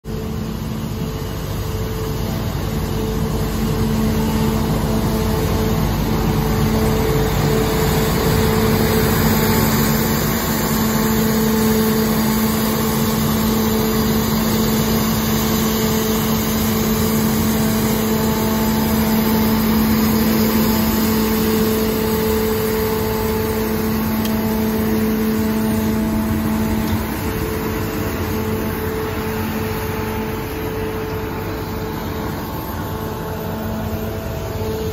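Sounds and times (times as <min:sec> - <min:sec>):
street sweeper engine and blower: 0:00.0 - 0:34.9.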